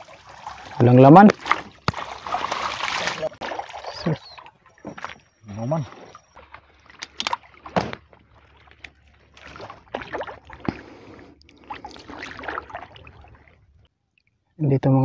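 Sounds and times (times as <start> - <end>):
paddle strokes splashing water: 0.0 - 13.9.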